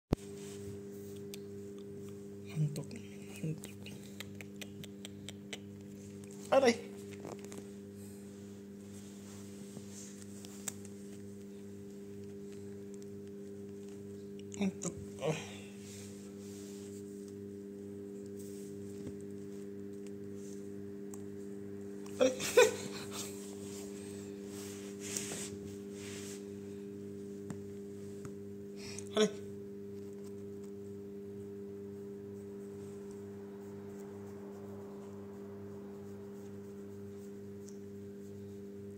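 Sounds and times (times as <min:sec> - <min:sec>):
steady low hum: 0:00.1 - 0:38.9
faint regular pulsing: 0:00.2 - 0:38.9.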